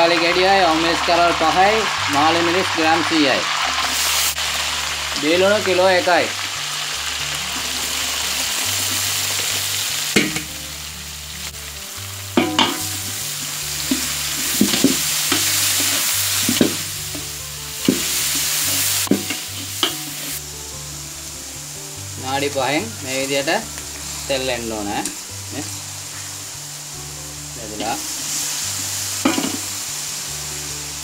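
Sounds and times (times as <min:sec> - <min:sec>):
onions sizzling in hot oil: 0:00.0 - 0:31.0.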